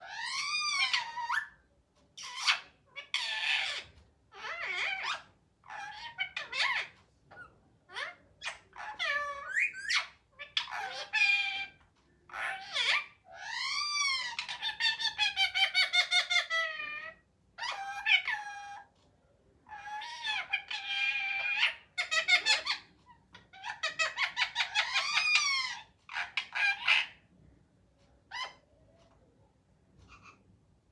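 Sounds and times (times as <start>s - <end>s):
parrot talking: 0.0s - 1.6s, 2.2s - 18.9s, 19.6s - 27.3s, 28.3s - 28.7s.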